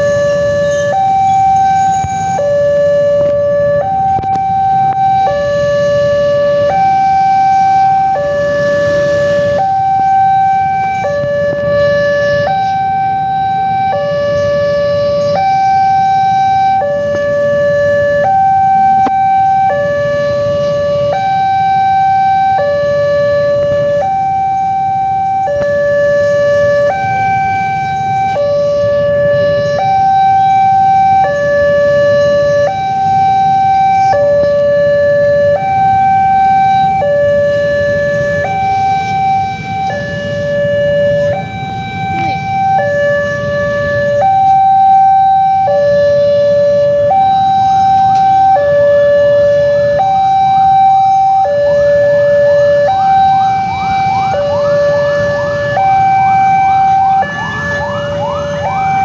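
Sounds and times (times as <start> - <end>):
two-tone warning siren: 0.0 - 59.0.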